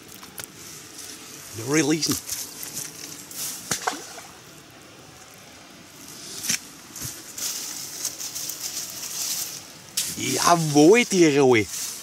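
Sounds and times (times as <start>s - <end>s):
clothing and grass rustling: 0.0s - 12.0s.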